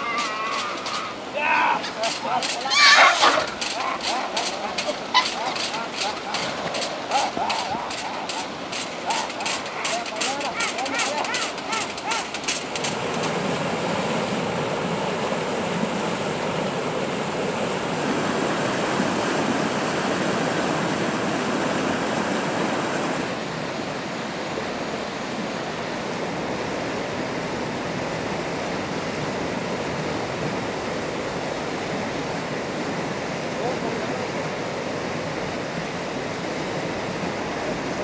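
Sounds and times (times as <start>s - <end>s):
canal water rushing: 0.0s - 38.0s.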